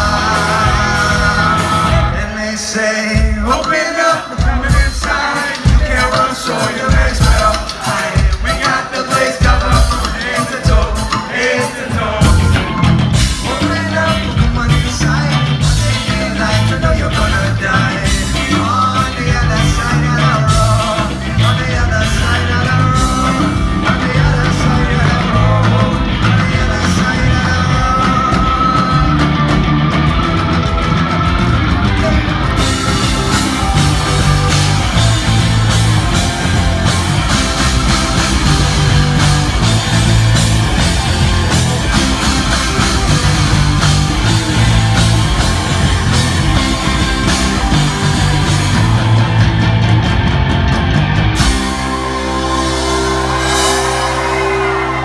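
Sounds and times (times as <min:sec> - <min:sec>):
bass guitar: 0:00.0 - 0:55.0
drums and cymbals: 0:00.0 - 0:55.0
electric guitars: 0:00.0 - 0:55.0
keyboard: 0:00.0 - 0:55.0.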